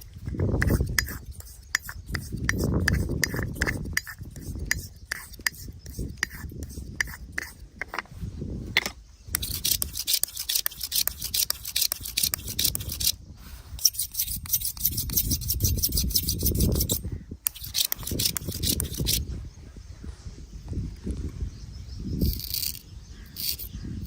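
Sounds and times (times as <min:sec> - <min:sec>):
razor scraping stubble: 0:00.0 - 0:08.1, 0:09.3 - 0:19.3, 0:22.2 - 0:23.9.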